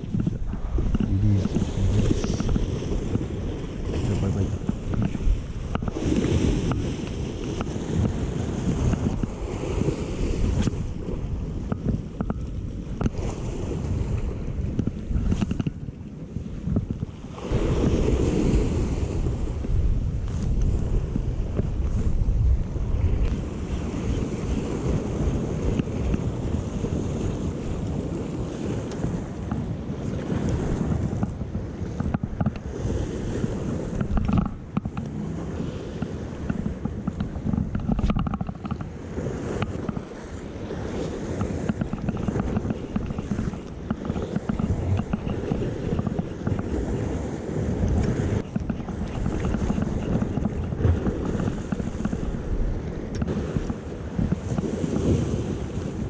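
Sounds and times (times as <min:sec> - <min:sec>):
waves breaking on rocks: 0:00.0 - 0:56.0
wind buffeting microphone: 0:00.0 - 0:56.0.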